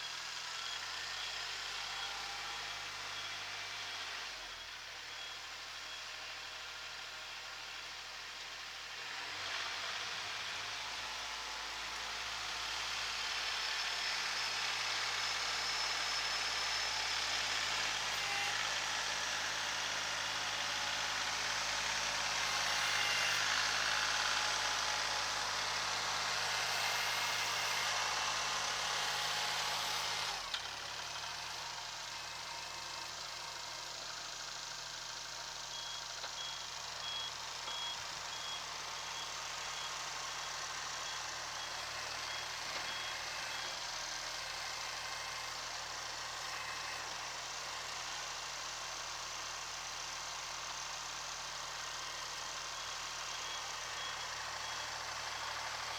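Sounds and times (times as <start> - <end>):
tractor diesel engine under load: 9.3 - 55.9.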